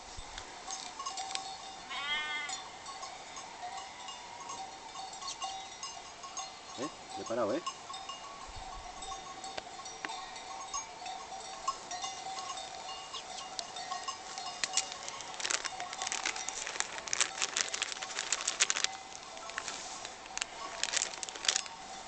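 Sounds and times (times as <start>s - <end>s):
livestock bells ringing: 0.2s - 22.0s.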